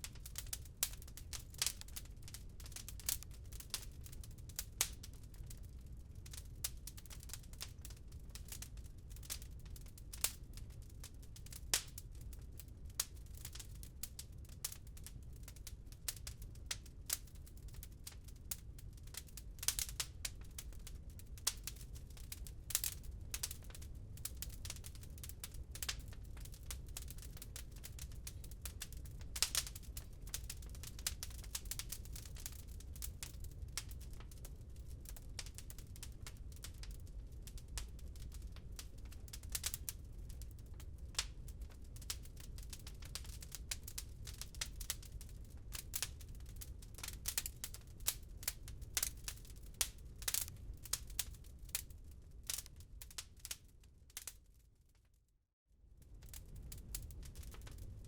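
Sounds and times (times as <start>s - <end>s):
low fire rumble: 0.0s - 54.9s, 55.9s - 58.0s
wood fire crackling: 0.0s - 55.2s, 56.0s - 58.0s.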